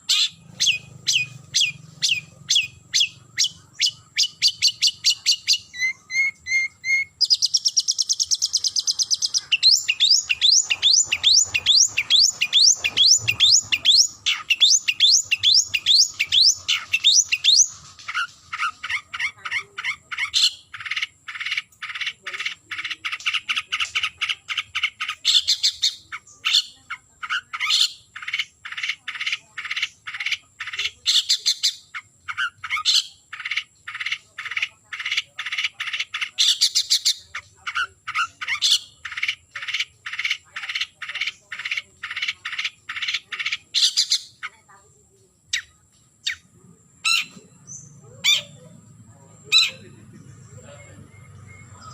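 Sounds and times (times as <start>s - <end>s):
shrike trilling and chattering: 0.0s - 51.9s.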